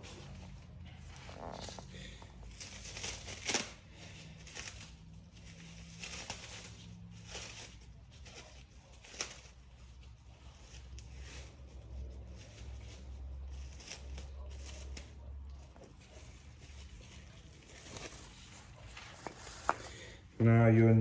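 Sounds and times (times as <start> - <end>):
brake pads rustling and scraping: 0.0 - 20.4.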